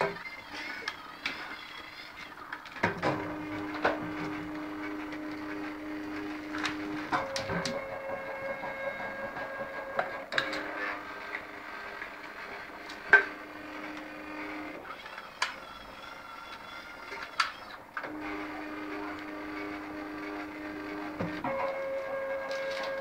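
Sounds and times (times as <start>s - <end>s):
stepper motors whining: 0.0s - 23.0s.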